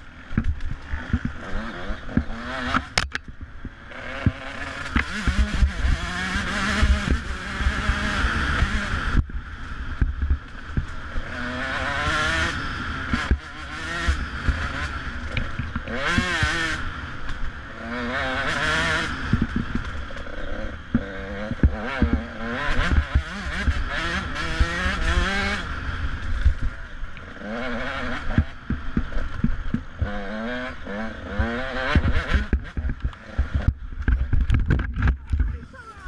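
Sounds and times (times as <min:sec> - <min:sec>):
motorcycle engine revving: 0:00.0 - 0:36.0
knocks and clatter of bike: 0:00.2 - 0:35.8.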